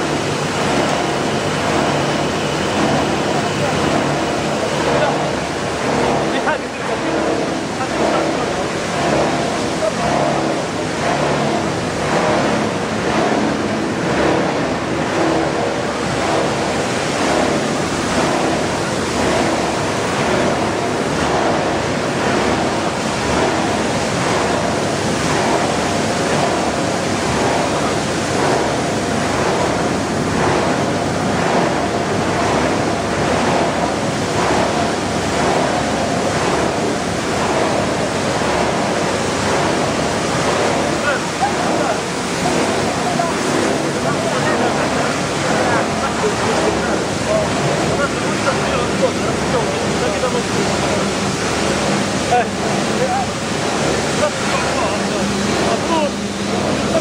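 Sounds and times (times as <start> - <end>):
plastic flakes churning in washer: 0.0 - 57.0
steady machine hum: 0.0 - 57.0
water pouring and splashing: 0.0 - 57.0.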